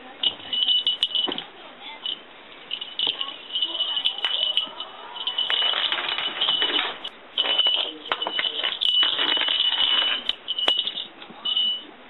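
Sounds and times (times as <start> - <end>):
small metal bell jingling: 0.0 - 11.9.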